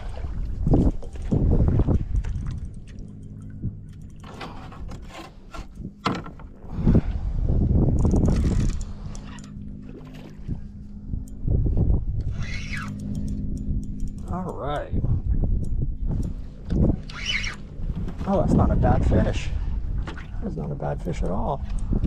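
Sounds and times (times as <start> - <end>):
wind gusting on microphone: 0.0 - 2.7, 5.7 - 9.4, 10.3 - 22.0
boat motor humming: 0.0 - 22.0.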